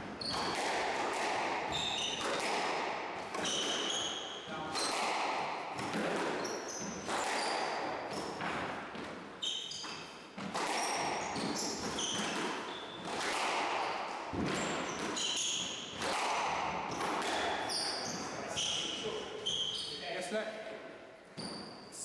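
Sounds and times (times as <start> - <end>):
shoes squeaking on floor: 0.0 - 2.5, 3.3 - 5.1, 5.8 - 16.2, 16.9 - 20.3, 21.3 - 22.0
rackets striking squash ball: 0.0 - 19.9, 21.3 - 21.9.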